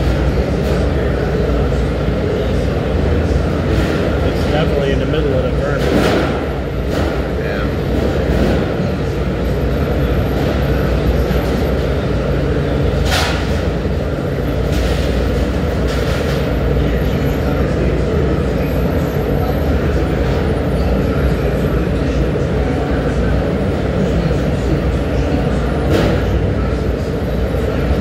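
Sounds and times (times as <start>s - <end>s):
furnace roaring: 0.0s - 28.0s.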